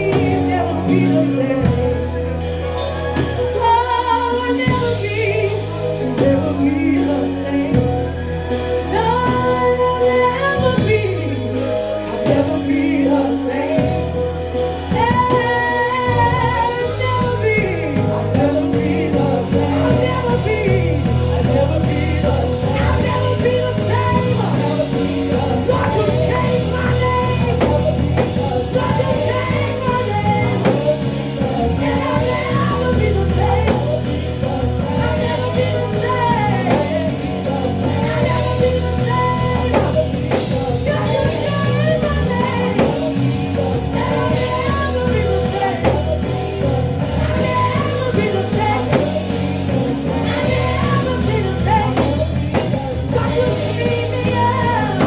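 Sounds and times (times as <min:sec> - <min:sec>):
praise band playing: 0:00.0 - 0:55.0
voices singing along: 0:00.0 - 0:55.0.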